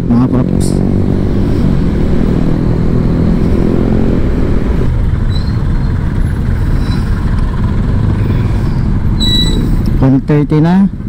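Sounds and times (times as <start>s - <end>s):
road and wind rumble: 0.0s - 11.0s
scooter engine running: 0.9s - 9.8s.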